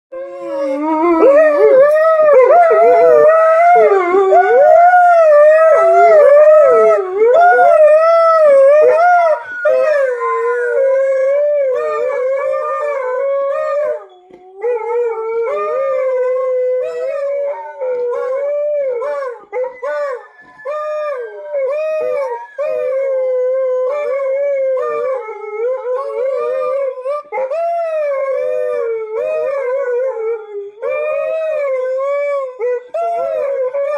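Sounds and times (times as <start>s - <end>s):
dogs howling: 0.2s - 33.9s.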